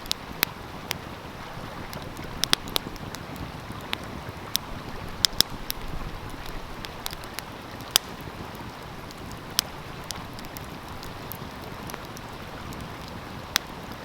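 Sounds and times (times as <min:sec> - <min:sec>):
flowing stream: 0:00.0 - 0:14.0
wood fire crackling: 0:00.0 - 0:14.0
sharp pops of fire: 0:01.8 - 0:14.0.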